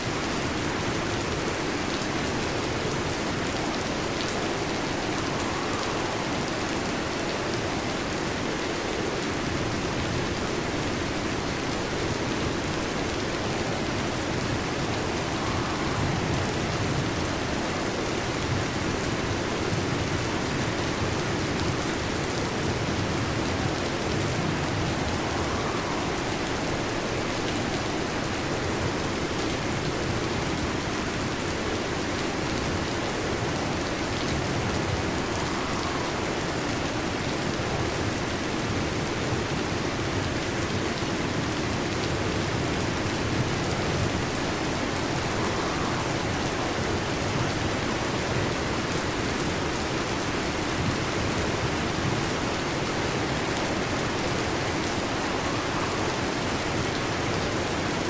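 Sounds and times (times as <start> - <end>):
heavy rain on a metal roof: 0.0 - 58.0.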